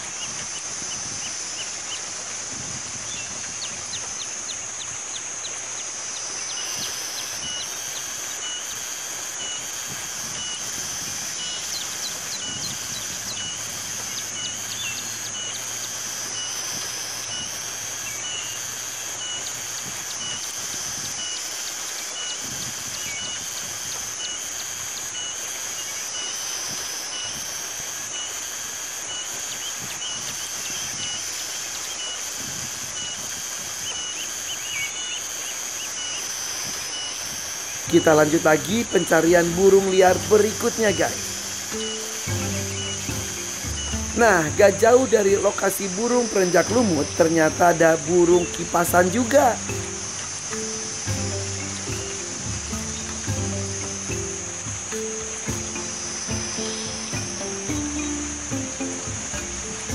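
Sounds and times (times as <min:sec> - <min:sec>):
small birds calling: 0:00.0 - 0:59.9
steady high-pitched hiss: 0:00.0 - 0:59.9.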